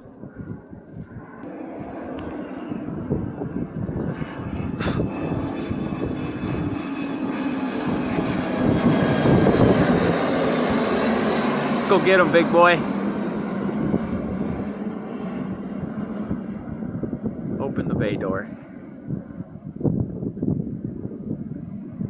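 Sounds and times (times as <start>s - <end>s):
airplane engines flying low: 0.0s - 22.0s.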